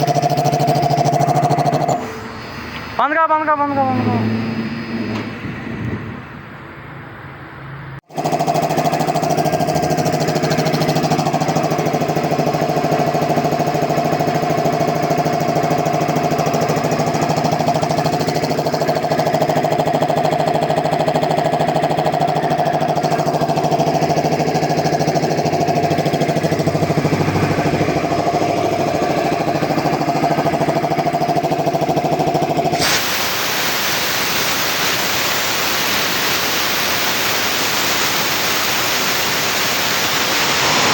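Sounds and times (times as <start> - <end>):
air compressor running: 0.0 - 3.2, 8.0 - 40.9.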